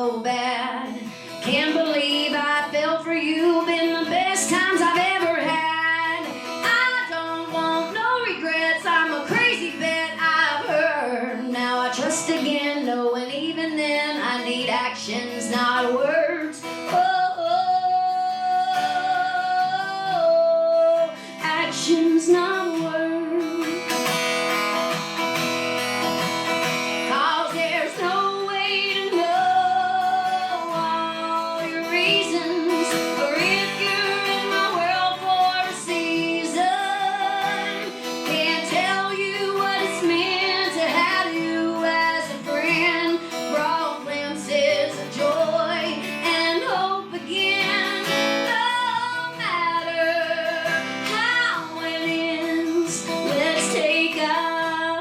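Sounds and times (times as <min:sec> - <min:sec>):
woman singing: 0:00.0 - 0:24.1, 0:27.0 - 0:55.0
acoustic guitar: 0:00.0 - 0:55.0.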